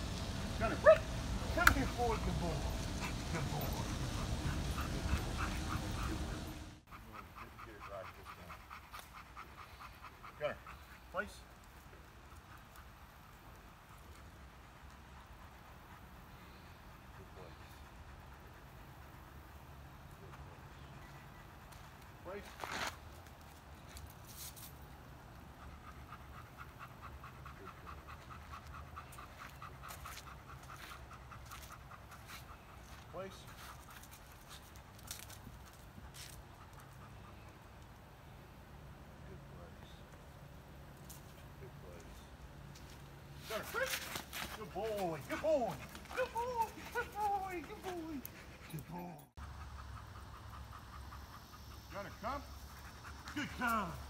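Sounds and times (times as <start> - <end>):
dog panting and whining: 0.1 - 22.8, 24.7 - 38.2, 43.2 - 54.0.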